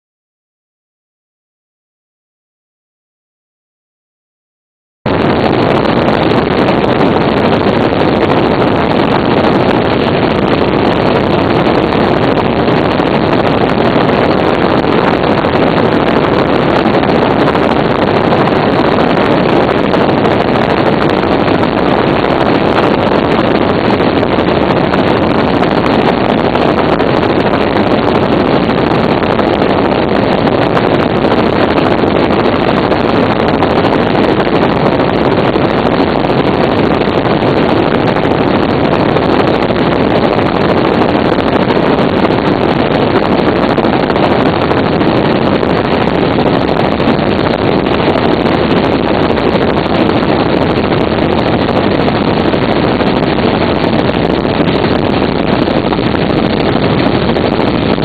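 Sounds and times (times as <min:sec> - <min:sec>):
helicopter engine and rotor drone: 0:05.1 - 0:58.0.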